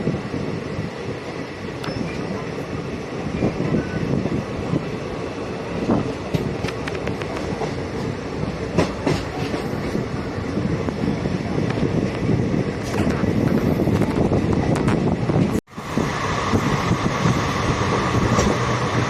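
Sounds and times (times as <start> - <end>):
train coaches rumbling on track: 0.0 - 19.0.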